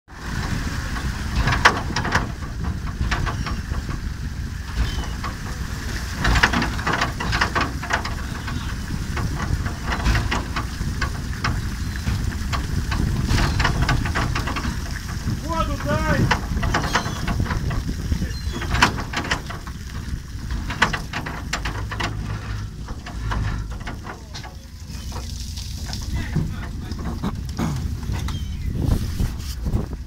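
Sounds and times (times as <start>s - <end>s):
ship machinery rumbling: 0.1s - 30.0s
water splashing and pouring: 0.1s - 30.0s.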